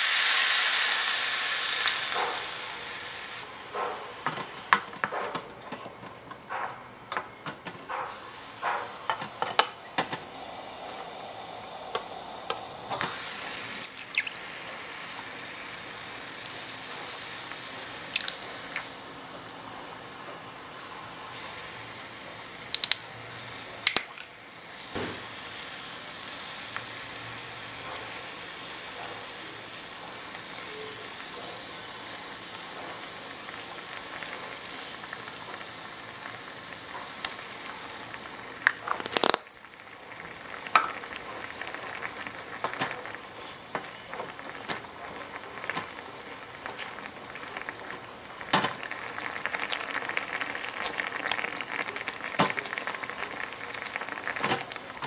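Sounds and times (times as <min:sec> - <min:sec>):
broth simmering in pot: 0:00.0 - 0:55.0.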